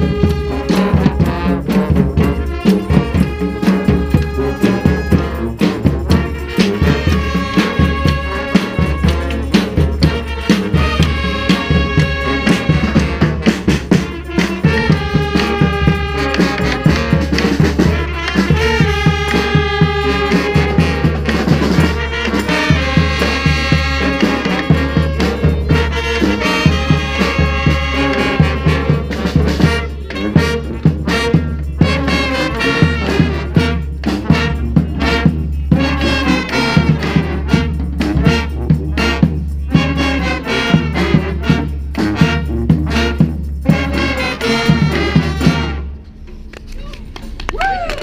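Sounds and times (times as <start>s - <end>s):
brass band playing: 0.0s - 48.0s
drum beat: 0.0s - 48.0s.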